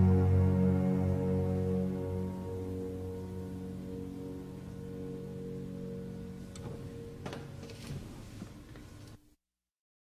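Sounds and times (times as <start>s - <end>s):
quiet music held tones: 0.0s - 9.4s.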